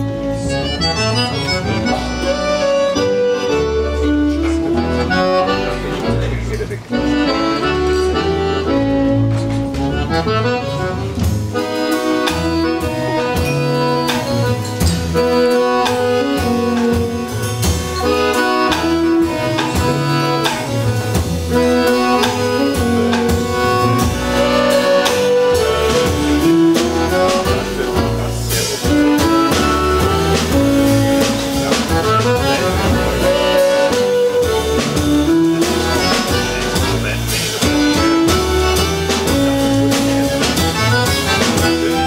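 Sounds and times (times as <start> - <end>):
accordion: 0.0 - 42.0
violin: 0.0 - 42.0
walking bass line: 0.0 - 42.0
drum strokes: 4.3 - 42.0.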